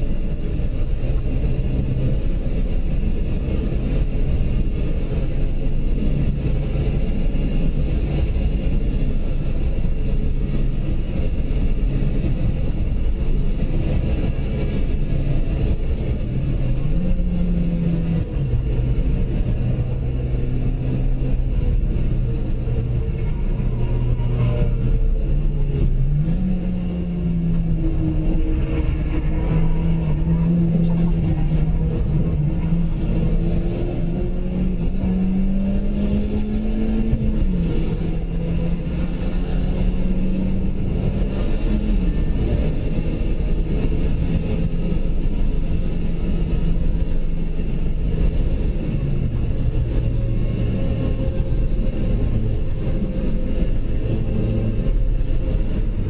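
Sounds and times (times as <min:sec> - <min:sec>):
car engine accelerating hard: 0:00.0 - 0:56.0
road and tyre noise: 0:00.0 - 0:56.0.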